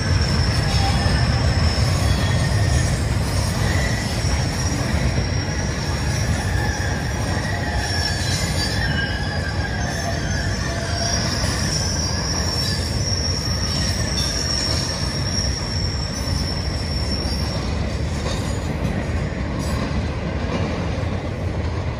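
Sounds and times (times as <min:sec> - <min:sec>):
high wheel squeal: 0:00.0 - 0:18.7
train wheels rumbling on rails: 0:00.0 - 0:21.9.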